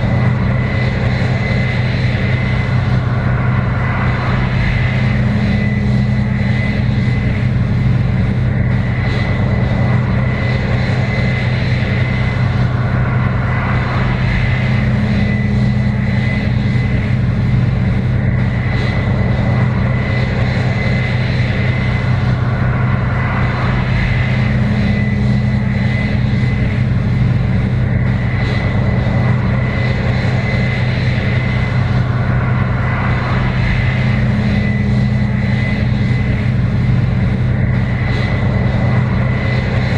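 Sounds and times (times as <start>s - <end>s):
diesel engine drone: 0.0s - 39.9s
high whine: 0.0s - 39.9s.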